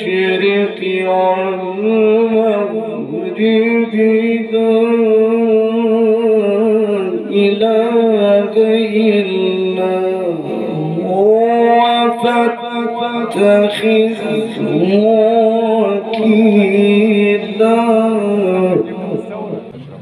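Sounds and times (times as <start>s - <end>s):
man chanting through loudspeaker: 0.0s - 20.0s.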